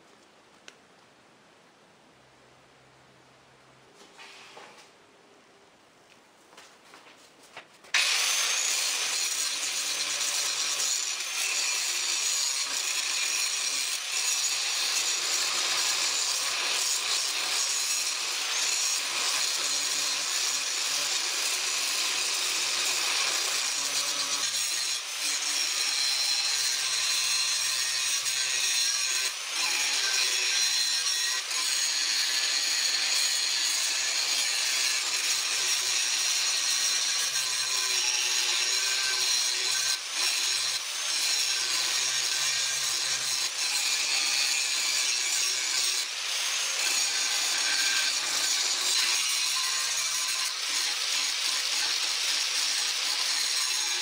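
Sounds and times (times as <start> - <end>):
angle grinder cutting steel: 8.0 - 54.0.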